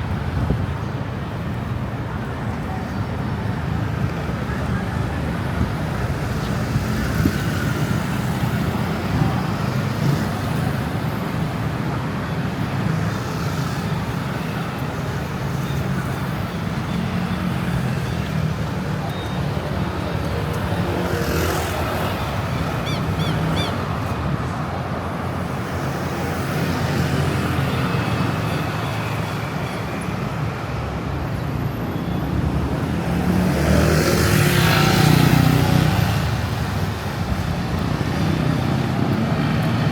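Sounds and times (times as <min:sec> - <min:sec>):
traffic rumble: 0:00.0 - 0:39.9.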